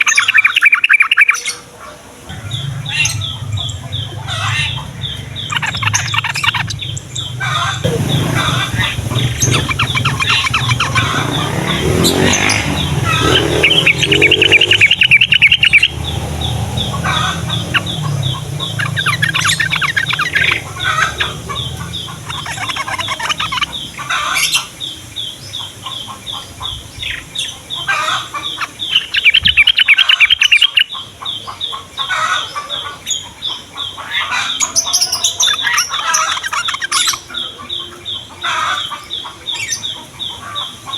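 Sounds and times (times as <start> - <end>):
birds chattering calls: 0.0 - 40.9.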